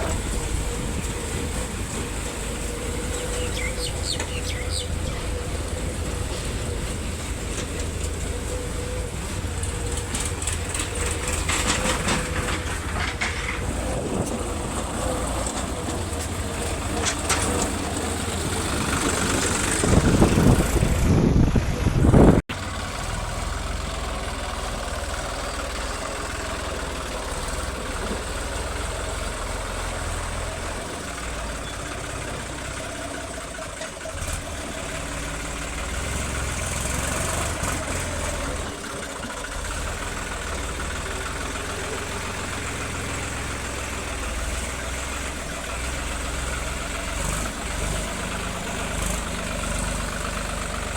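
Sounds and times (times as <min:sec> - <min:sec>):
heavy machinery engine running: 0:00.0 - 0:50.9.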